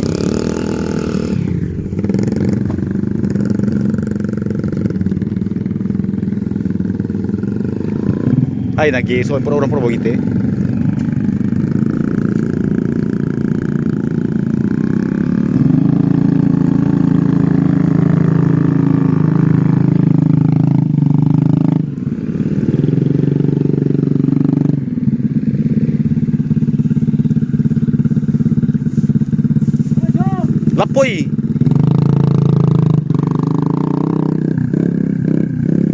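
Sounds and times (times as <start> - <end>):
small motorcycle engine running: 0.0 - 35.9.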